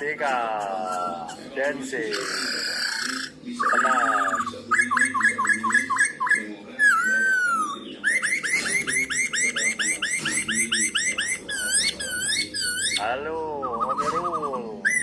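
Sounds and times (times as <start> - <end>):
bird singing whistled phrases: 2.1 - 15.0.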